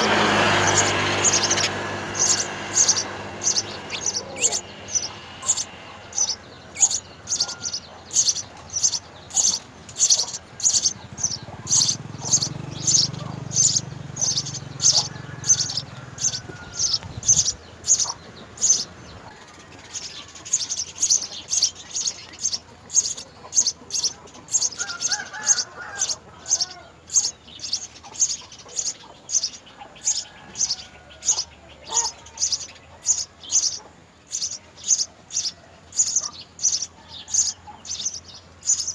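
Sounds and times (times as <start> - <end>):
sparrow chirping: 0.0 - 38.9.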